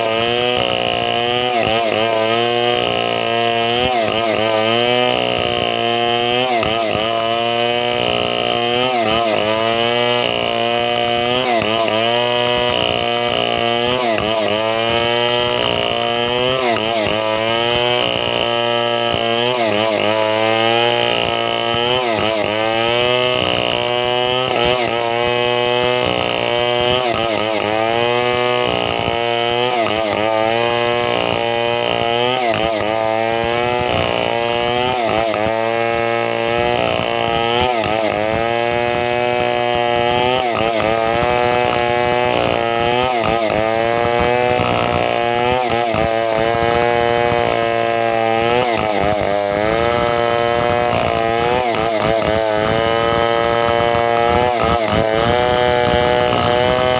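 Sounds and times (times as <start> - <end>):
chainsaw cutting at high revs: 0.0 - 56.9.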